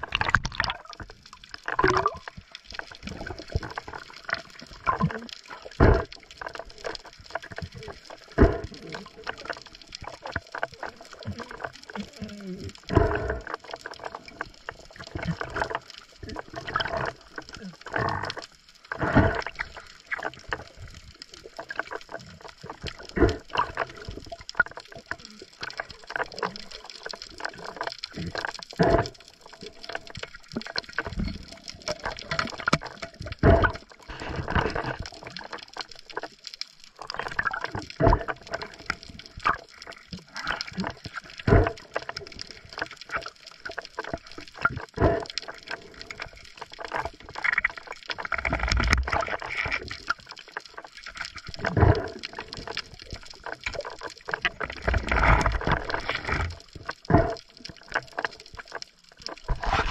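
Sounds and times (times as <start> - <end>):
underwater water movement: 0.0 - 59.9.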